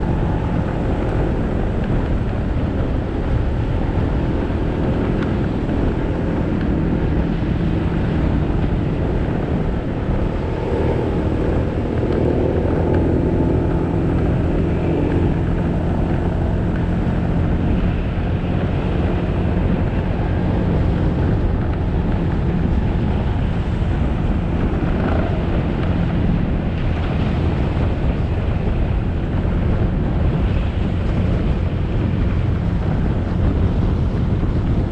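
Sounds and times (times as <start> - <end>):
motorcycle engine running: 0.0 - 34.9
road noise: 0.0 - 34.9.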